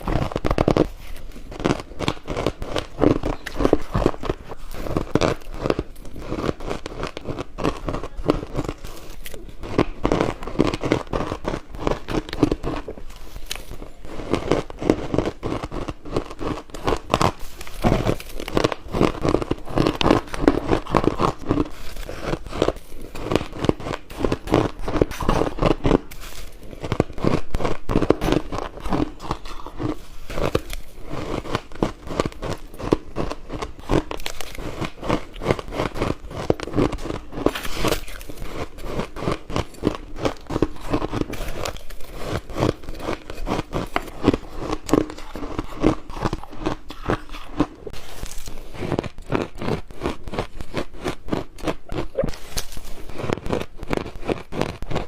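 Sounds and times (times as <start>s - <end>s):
ice cubes crunching in mouth: 0.0s - 55.0s.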